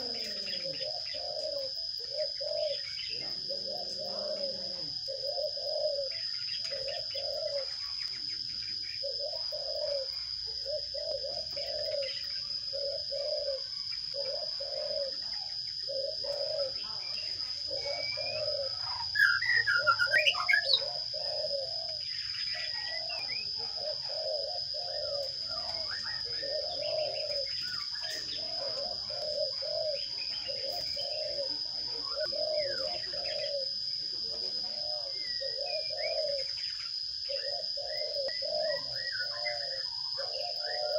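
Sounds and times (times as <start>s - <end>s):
dove cooing: 0.0s - 40.9s
sparrows chirping: 0.0s - 40.9s.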